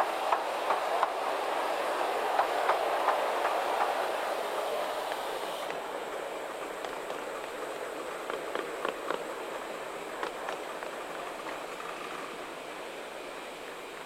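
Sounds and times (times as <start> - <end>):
railway wheels rolling on rails: 0.0 - 14.0
wheels clicking over rail joints: 0.0 - 14.0.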